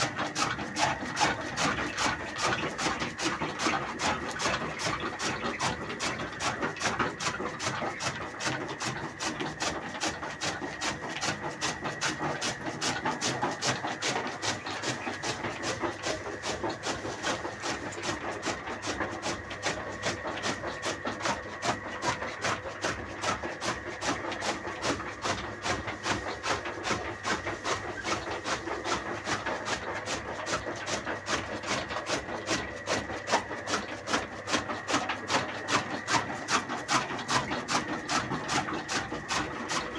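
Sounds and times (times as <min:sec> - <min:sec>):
chaff cutter chopping fodder: 0:00.0 - 0:39.9.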